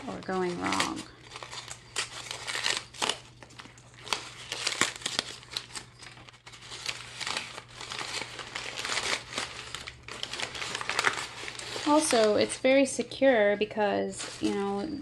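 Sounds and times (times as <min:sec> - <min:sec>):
newspaper crinkling: 0:00.0 - 0:15.0.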